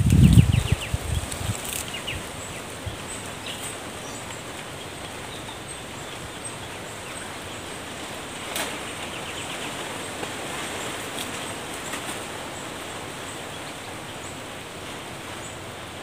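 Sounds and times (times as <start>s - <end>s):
branches rustling: 0.0s - 15.9s
leaves hissing: 0.0s - 16.0s.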